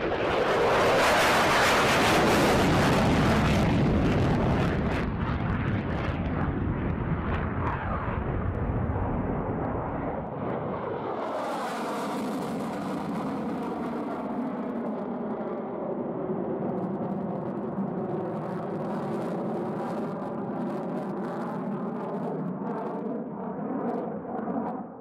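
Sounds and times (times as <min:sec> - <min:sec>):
jet engine roaring on takeoff: 0:00.0 - 0:25.0.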